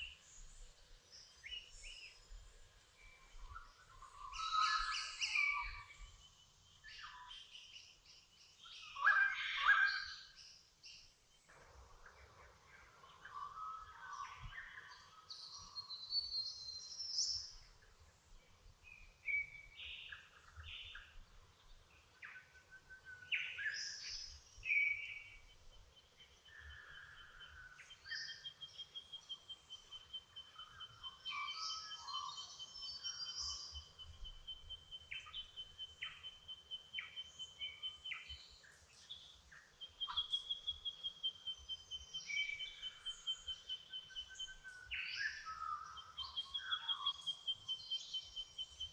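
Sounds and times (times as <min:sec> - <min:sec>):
birds singing and chirping: 0:03.0 - 0:11.1, 0:12.0 - 0:18.0, 0:18.9 - 0:48.9.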